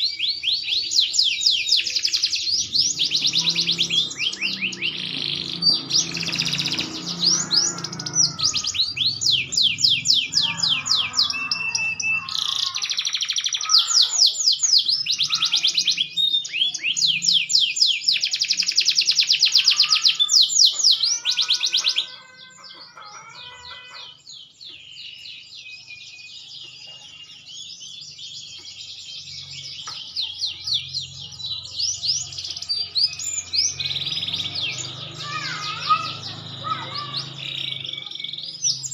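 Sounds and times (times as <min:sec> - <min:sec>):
canary singing rapid trills: 0:00.0 - 0:38.9.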